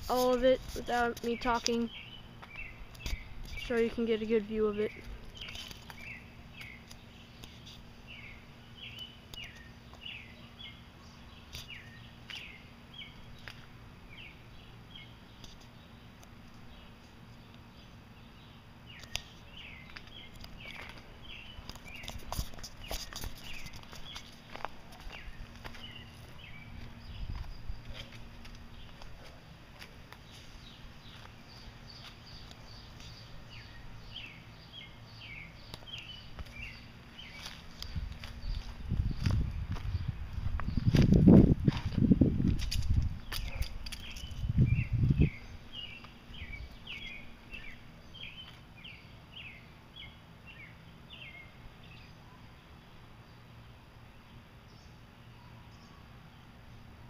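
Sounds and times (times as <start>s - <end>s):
bird chirping: 0.4s - 29.4s, 30.2s - 41.0s, 43.2s - 56.9s.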